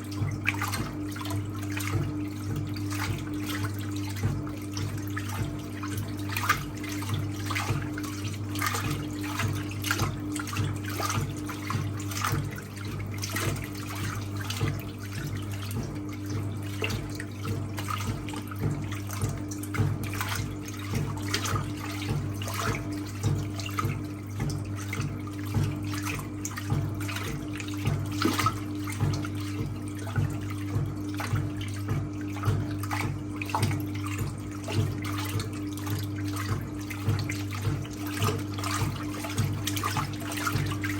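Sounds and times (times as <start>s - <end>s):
washing machine motor hum: 0.0s - 40.9s
water sloshing: 0.0s - 40.9s.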